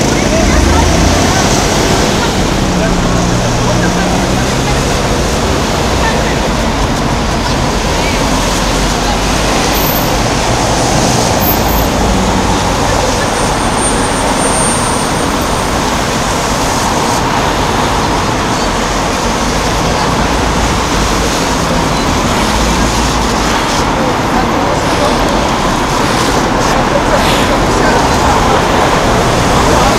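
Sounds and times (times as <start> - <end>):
road traffic: 0.0 - 29.9.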